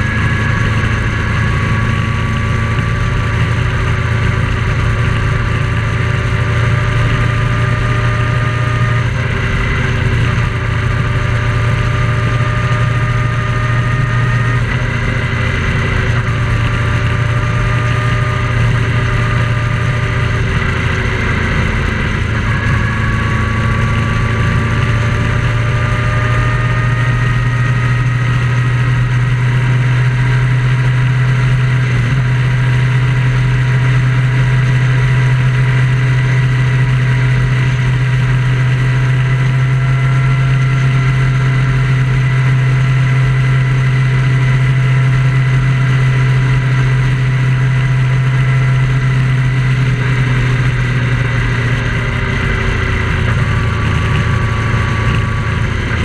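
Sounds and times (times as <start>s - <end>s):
road and wind noise: 0.0s - 56.0s
vehicle engine droning: 0.0s - 56.0s.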